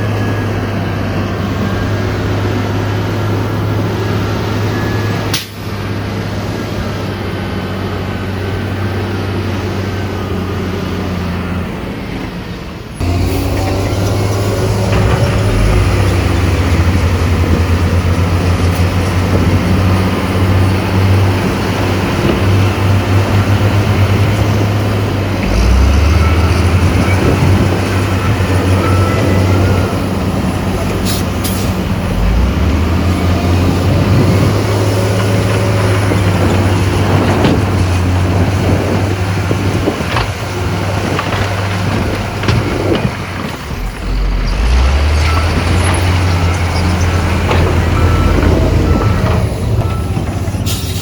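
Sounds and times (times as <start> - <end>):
heavy diesel engines under load: 0.0 - 51.0.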